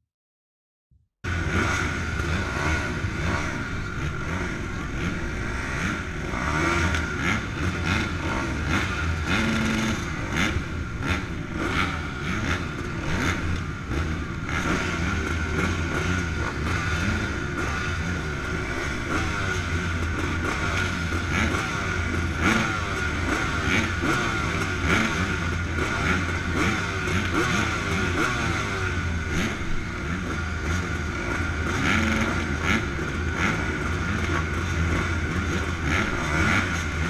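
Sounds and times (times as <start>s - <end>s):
motocross bikes revving: 1.3s - 37.0s.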